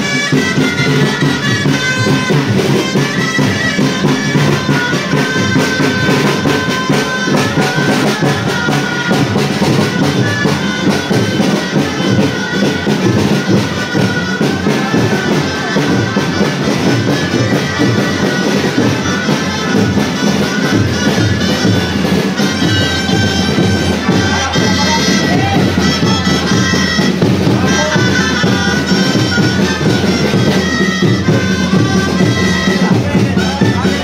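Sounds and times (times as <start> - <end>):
drum beat: 0.0 - 34.0
reed pipes playing melody: 0.0 - 34.0.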